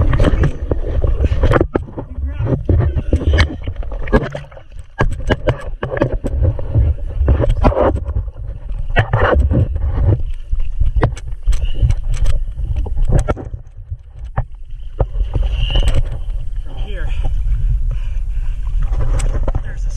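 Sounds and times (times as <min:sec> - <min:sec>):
water splashing against hull: 0:00.0 - 0:19.9
wind buffeting microphone: 0:00.0 - 0:19.9.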